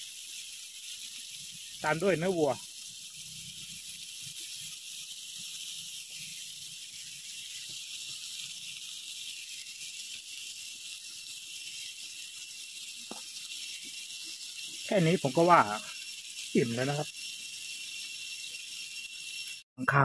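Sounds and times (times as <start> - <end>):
food sizzling on griddle pan: 0.0 - 19.7.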